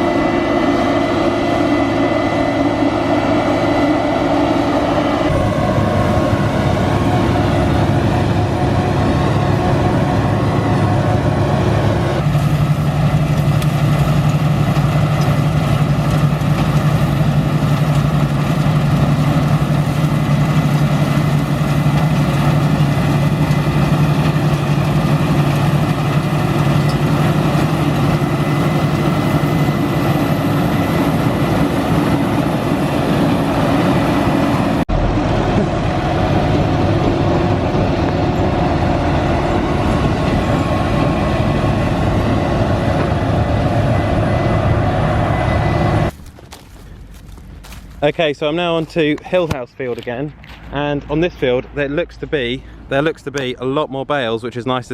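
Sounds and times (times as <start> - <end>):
vehicle engine running: 0.0 - 53.6.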